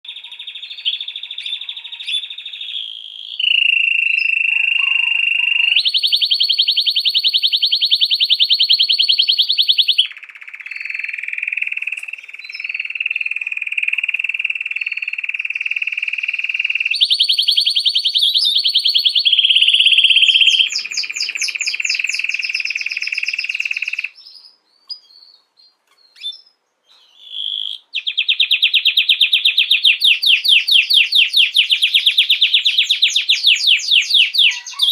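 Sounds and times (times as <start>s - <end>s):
canary singing: 0.0s - 34.9s.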